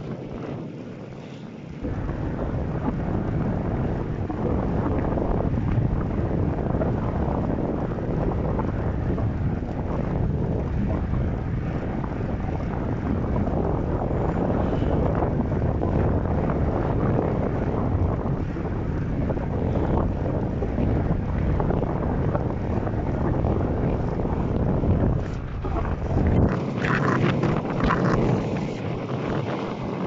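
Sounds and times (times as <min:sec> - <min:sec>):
gusty wind buffeting microphone: 0:00.0 - 0:30.0.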